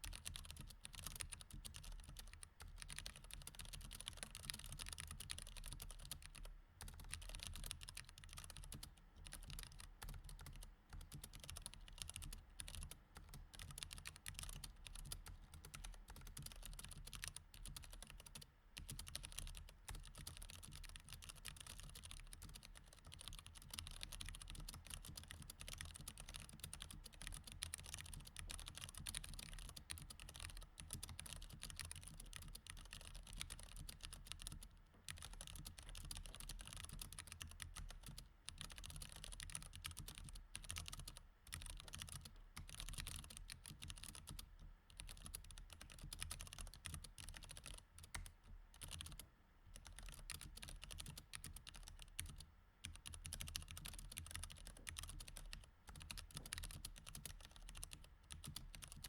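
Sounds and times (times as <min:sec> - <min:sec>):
mechanical keyboard typing: 0:00.0 - 0:49.2, 0:49.8 - 0:59.0.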